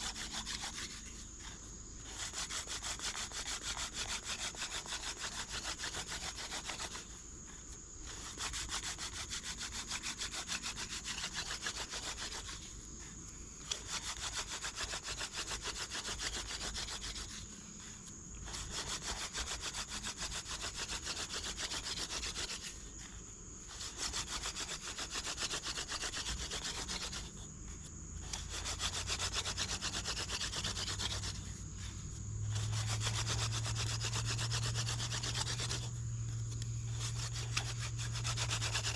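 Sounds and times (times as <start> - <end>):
wooden spindle grinding in hearth board: 0.0 - 38.9.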